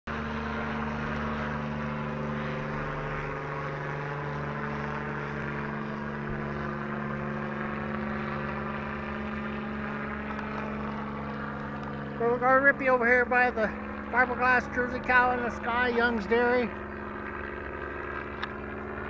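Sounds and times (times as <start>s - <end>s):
helicopter flying overhead: 0.1s - 19.0s.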